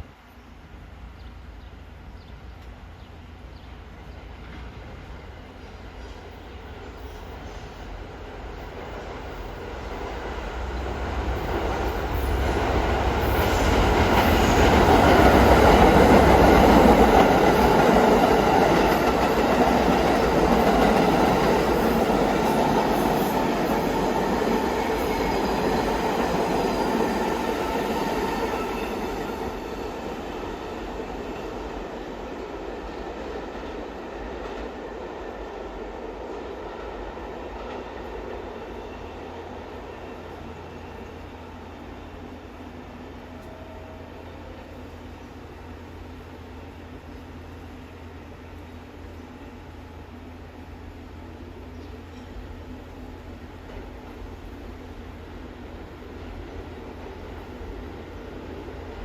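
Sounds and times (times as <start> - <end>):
subway train running past: 0.0 - 59.0.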